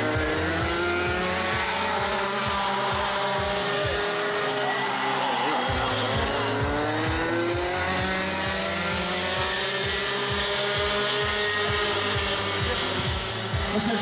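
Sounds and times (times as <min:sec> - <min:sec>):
go-kart engines running: 0:00.0 - 0:14.0
kart engine accelerating: 0:00.0 - 0:14.0.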